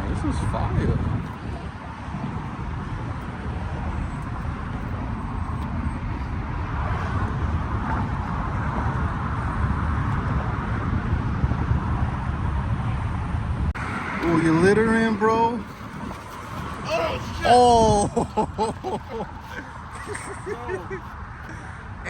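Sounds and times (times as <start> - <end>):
car engines idling: 0.0 - 22.0
outdoor background noise: 0.0 - 22.0.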